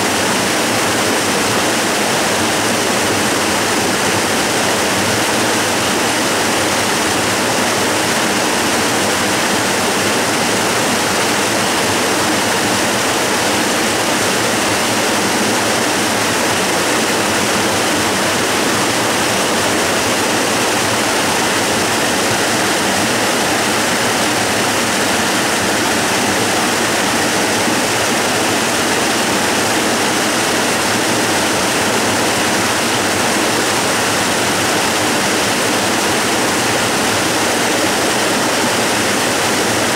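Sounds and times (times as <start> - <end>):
waterfall pouring over rock: 0.0 - 39.9.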